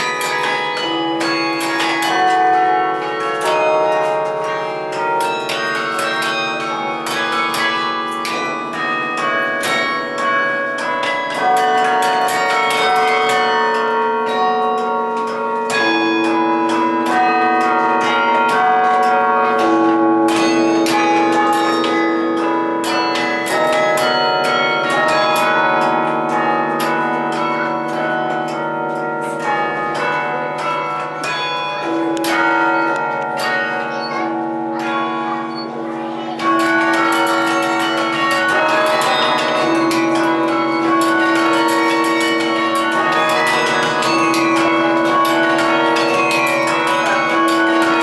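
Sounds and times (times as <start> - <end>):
carillon bells: 0.0 - 48.0.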